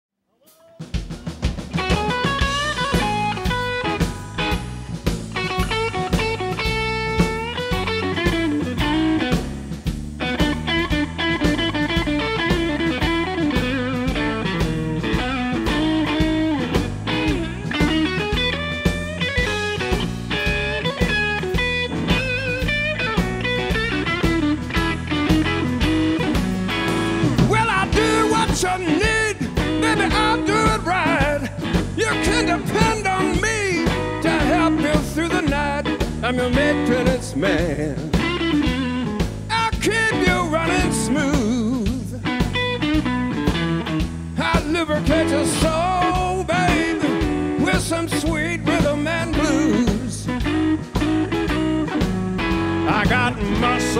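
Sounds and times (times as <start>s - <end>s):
bass guitar: 0.4s - 53.9s
drum kit shuffle: 0.4s - 53.9s
electric guitar lead lines: 0.6s - 53.9s.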